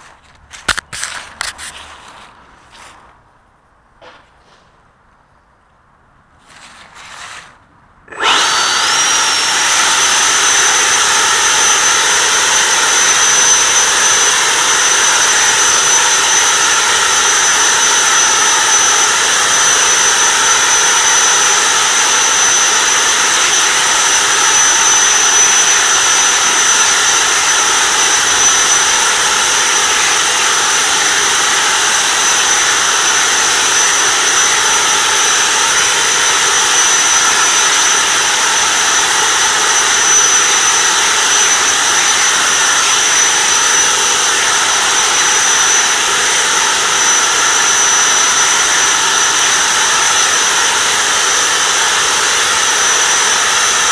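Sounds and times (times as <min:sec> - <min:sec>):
leaf blower whine: 0:08.1 - 0:53.9.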